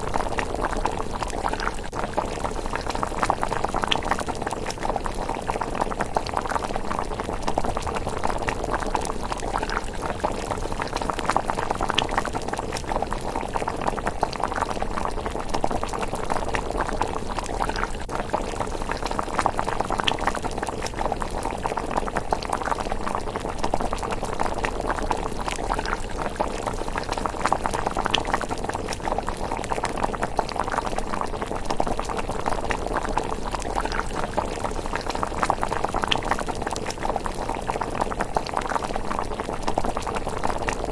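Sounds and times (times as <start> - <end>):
porridge bubbling in a pot: 0.0 - 40.9.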